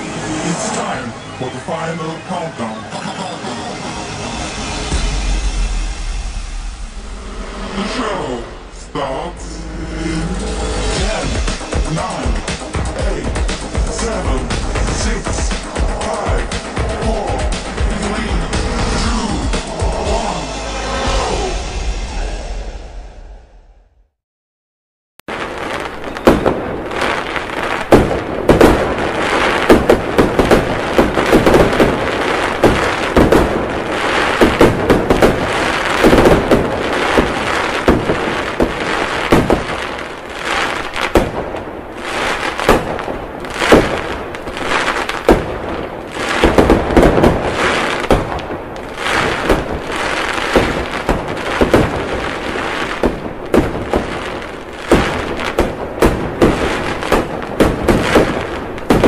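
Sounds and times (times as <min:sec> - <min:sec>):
fireworks crackle: 0:00.0 - 0:20.3, 0:25.3 - 0:59.0
fireworks bangs: 0:00.0 - 0:22.6, 0:25.3 - 0:59.0.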